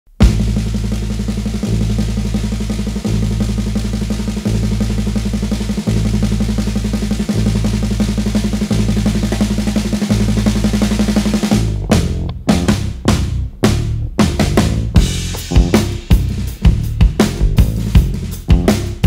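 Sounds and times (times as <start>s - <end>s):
electric bass low notes: 0.1s - 19.0s
fast drum kit pattern: 0.1s - 19.0s.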